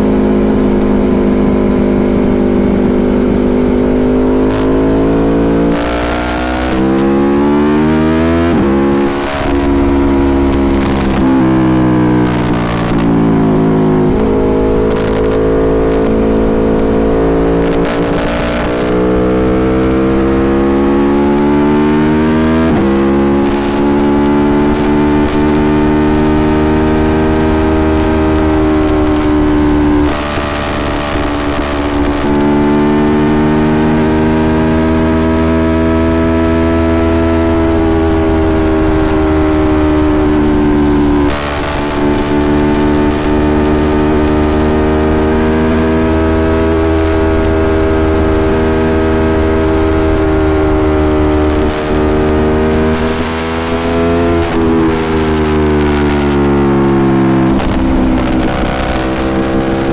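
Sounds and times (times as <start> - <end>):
motorcycle engine accelerating: 0.0 - 59.9
rushing wind noise: 0.0 - 59.9.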